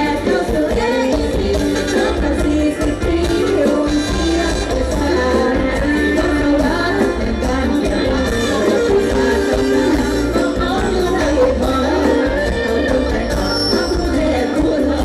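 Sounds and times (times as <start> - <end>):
live band music with heavy bass: 0.0 - 15.0
woman singing into a microphone: 0.0 - 15.0.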